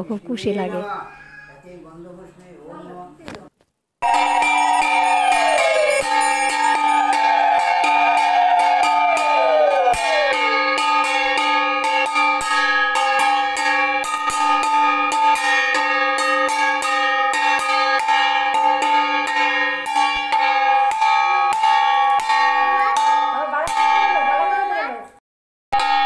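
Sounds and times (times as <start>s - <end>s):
brass hand bell ringing: 4.0s - 24.6s, 25.8s - 26.0s.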